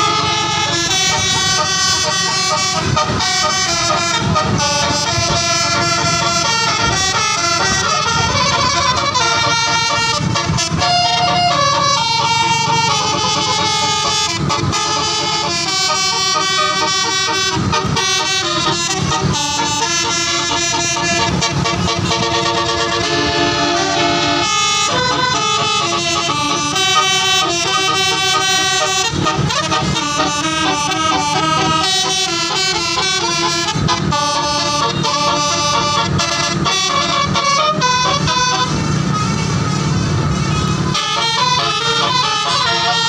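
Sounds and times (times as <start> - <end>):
bus horn playing a melody: 0.0 - 43.0.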